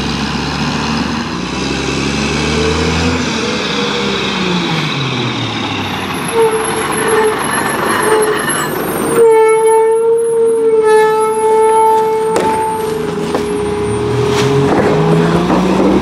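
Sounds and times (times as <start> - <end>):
garbage truck diesel engine: 0.0 - 16.0
high whine from truck: 0.0 - 16.0.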